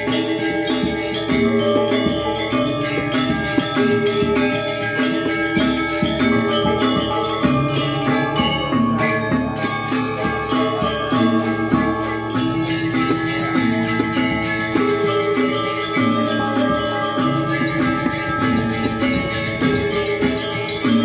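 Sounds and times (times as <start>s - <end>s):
gamelan playing: 0.0s - 21.0s.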